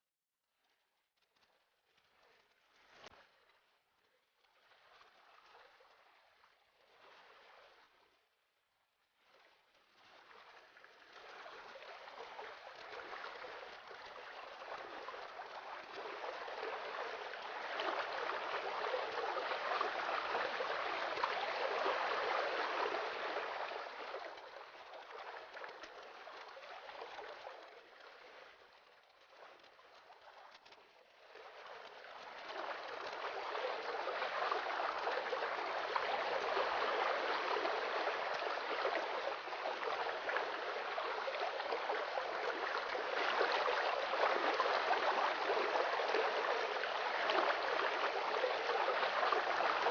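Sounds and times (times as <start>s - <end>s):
water trickling in fountain: 9.5s - 49.9s.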